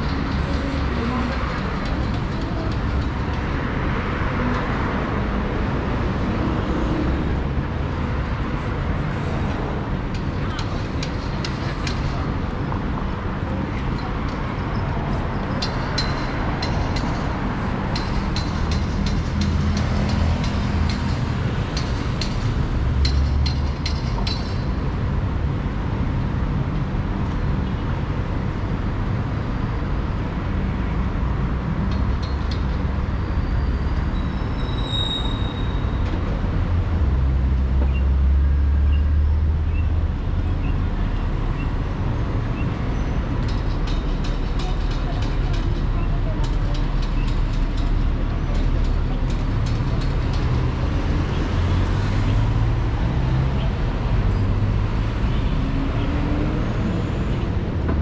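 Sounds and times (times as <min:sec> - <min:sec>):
city traffic rumble: 0:00.0 - 0:58.0.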